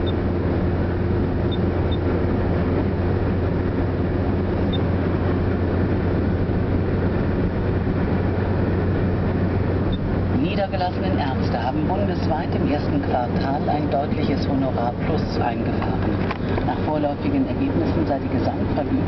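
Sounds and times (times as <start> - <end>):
car cabin noise: 0.0 - 19.0.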